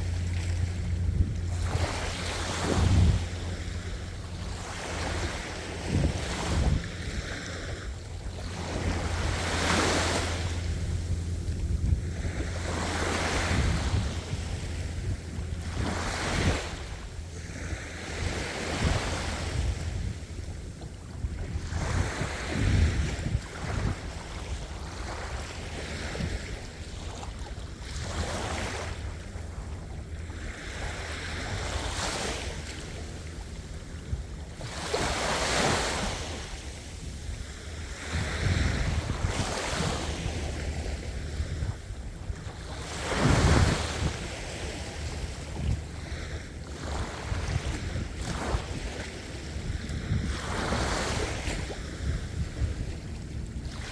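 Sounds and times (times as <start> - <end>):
ocean waves breaking on shore: 0.0 - 53.9
wind rumble on microphone: 0.0 - 53.9.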